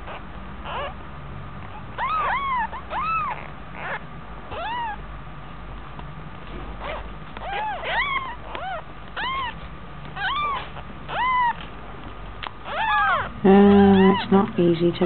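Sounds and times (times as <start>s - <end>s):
kittens mewing: 0.0s - 1.0s, 1.6s - 5.0s, 6.5s - 15.0s.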